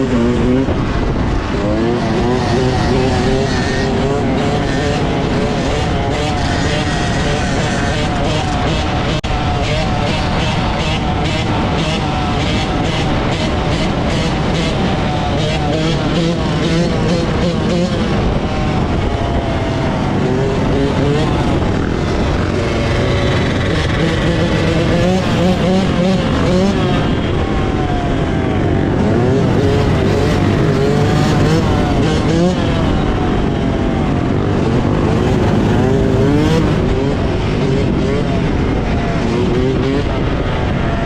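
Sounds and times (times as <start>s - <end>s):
small off-road engines revving: 0.0s - 41.0s.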